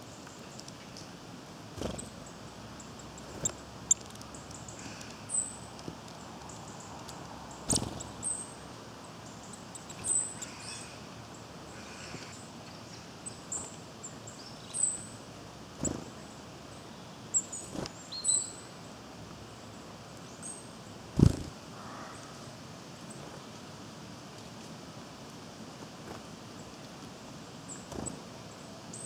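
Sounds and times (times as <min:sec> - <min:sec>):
small birds chirping: 0:00.0 - 0:23.6, 0:25.7 - 0:29.0.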